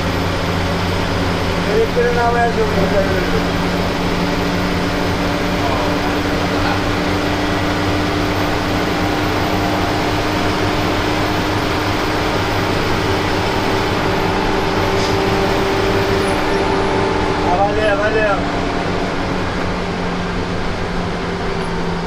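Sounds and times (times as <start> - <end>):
bus engine drone and road noise: 0.0 - 22.0.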